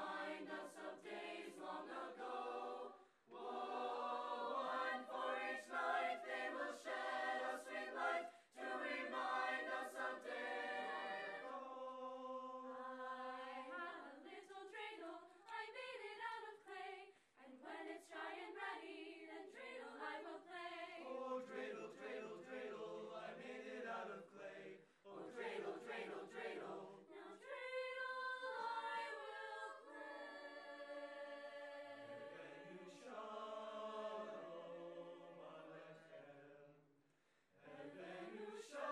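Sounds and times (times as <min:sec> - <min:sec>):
choir singing a cappella: 0:00.0 - 0:36.9, 0:37.6 - 0:38.9.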